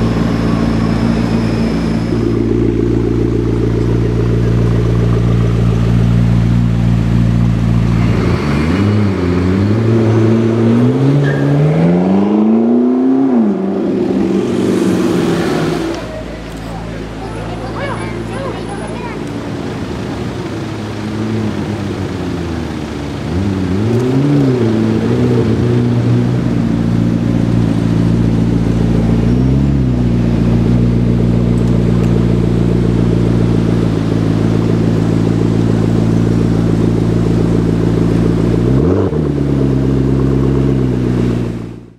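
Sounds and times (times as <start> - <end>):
car engine running and revving: 0.0 - 41.9.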